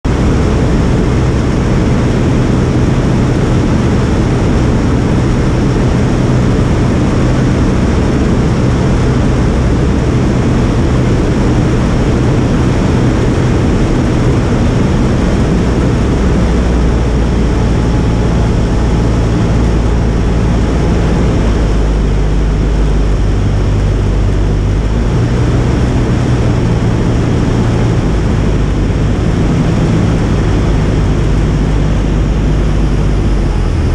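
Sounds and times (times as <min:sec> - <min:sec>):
aircraft engine and propeller: 0:00.0 - 0:33.9.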